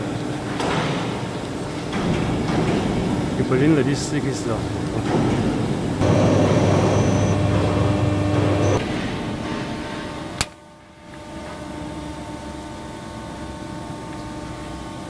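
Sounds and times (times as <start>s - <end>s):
hydraulic press hum and whine: 0.0s - 15.0s
motor humming quietly: 1.2s - 15.0s.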